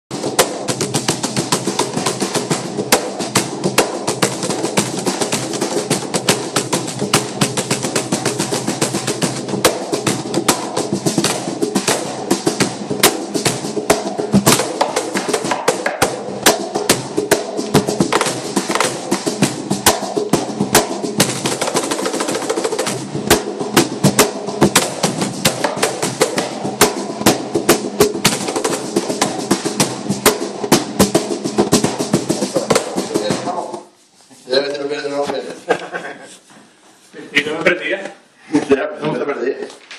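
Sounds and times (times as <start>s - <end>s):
hand drum slaps and taps: 0.2s - 33.5s.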